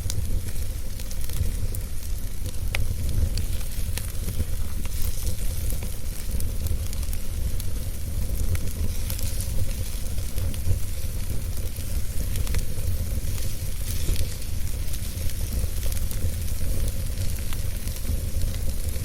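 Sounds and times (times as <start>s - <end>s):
fire crackles and pops: 0.0s - 19.0s
fire rumble and hiss: 0.0s - 19.0s.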